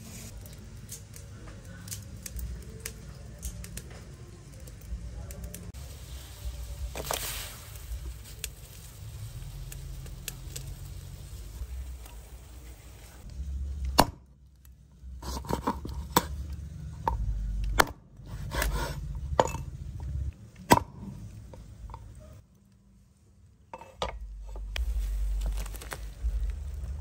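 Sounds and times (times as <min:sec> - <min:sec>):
pot boiling rumble: 0:00.0 - 0:22.4, 0:23.8 - 0:27.0.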